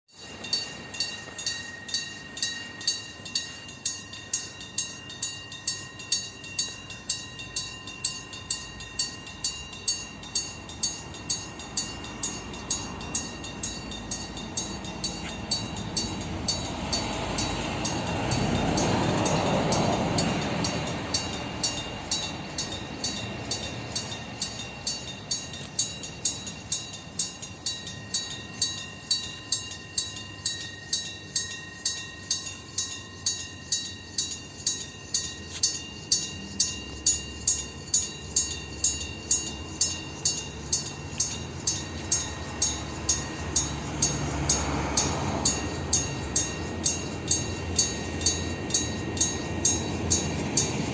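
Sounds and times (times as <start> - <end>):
diesel locomotive passing: 0.1 - 50.9.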